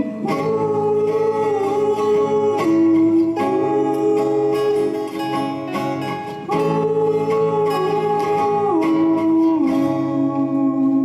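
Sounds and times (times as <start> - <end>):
acoustic guitars strumming: 0.0 - 11.0
person singing long notes: 0.0 - 11.0.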